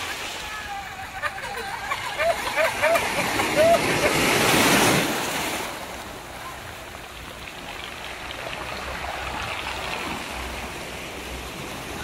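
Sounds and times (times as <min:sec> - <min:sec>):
small waves on shore: 0:00.0 - 0:12.0.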